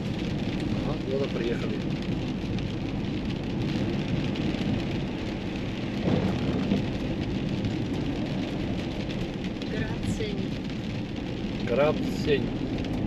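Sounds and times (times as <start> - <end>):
car engine hum: 0.0 - 13.0
road and tyre noise: 0.0 - 13.0.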